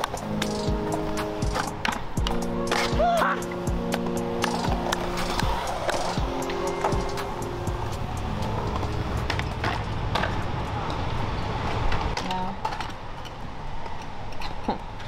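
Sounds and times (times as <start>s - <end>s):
skateboard clacks: 0.0s - 15.0s
skateboard wheels rolling on concrete: 0.0s - 15.0s.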